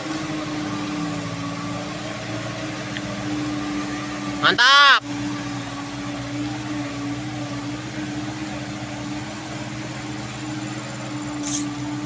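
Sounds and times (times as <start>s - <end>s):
diesel truck engine under load: 0.0s - 12.0s.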